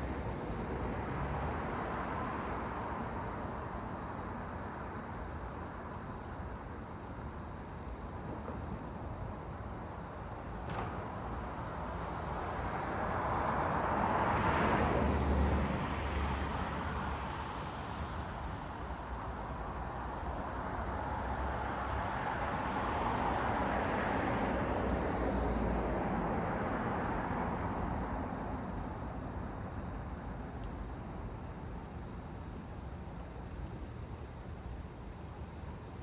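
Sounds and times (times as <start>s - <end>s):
hum of road traffic: 0.0s - 36.0s.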